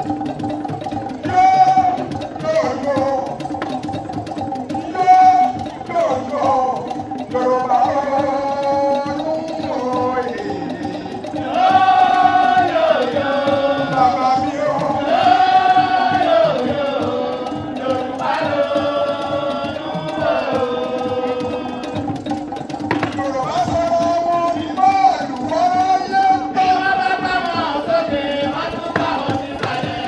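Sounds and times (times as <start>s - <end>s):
hand drum percussion: 0.0s - 30.0s.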